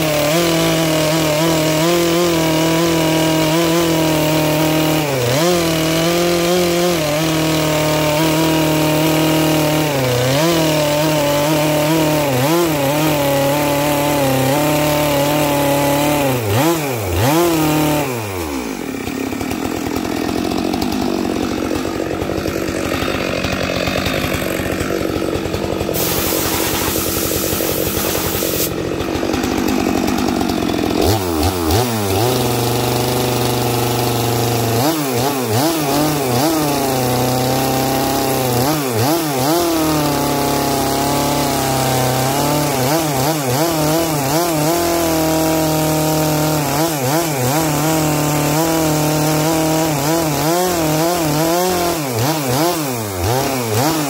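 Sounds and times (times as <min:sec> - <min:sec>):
chainsaw cutting through log: 0:00.0 - 0:54.0.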